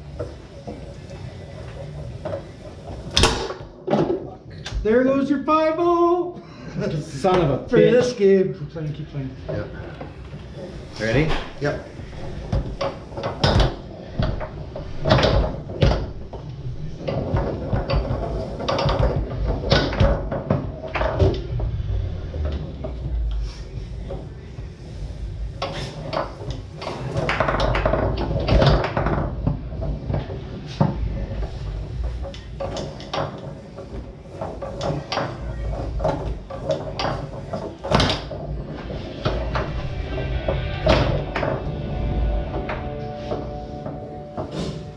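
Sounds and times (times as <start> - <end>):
foosball rods knocking: 0.0 - 4.9, 9.4 - 44.9.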